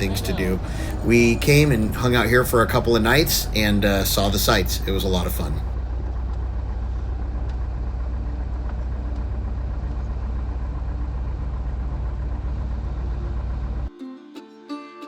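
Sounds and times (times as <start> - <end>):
propeller plane engine droning: 0.0 - 13.9.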